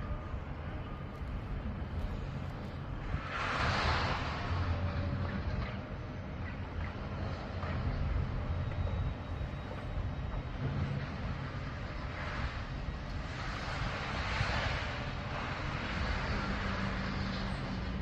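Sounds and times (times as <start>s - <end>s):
distant engine hum: 0.0s - 18.0s
rushing noise: 0.0s - 18.0s.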